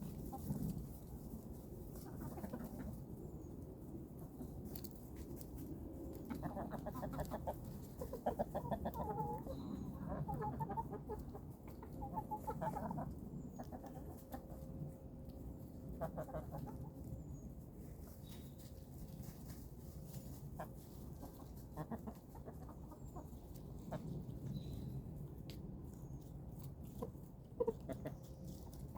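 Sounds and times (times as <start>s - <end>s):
chickens clucking: 0.0s - 28.9s
low background noise: 0.0s - 28.9s.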